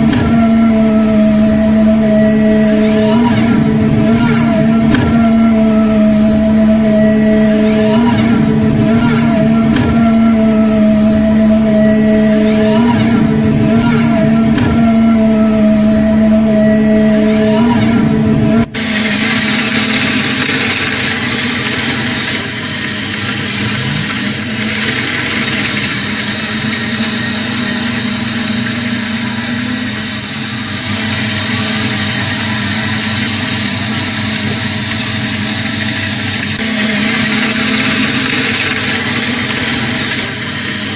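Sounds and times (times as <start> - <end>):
diesel machinery engine running: 0.0 - 40.9.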